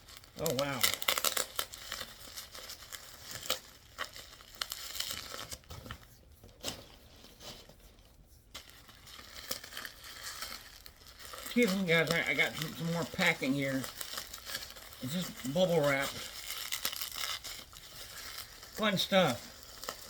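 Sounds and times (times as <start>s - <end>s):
bubble wrap crinkling and tearing: 0.0s - 20.0s.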